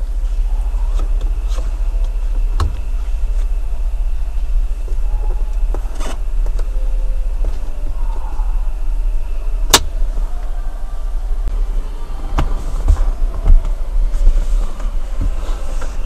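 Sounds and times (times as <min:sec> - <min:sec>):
faint high whine: 0:00.0 - 0:16.0
low rumble in car cabin: 0:00.0 - 0:16.0.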